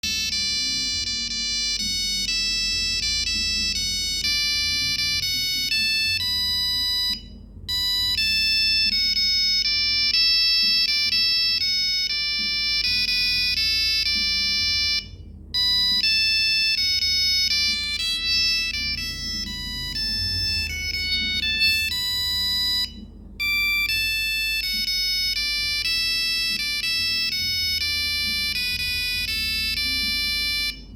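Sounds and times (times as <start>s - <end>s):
monophonic phone ringtone: 0.0s - 30.9s.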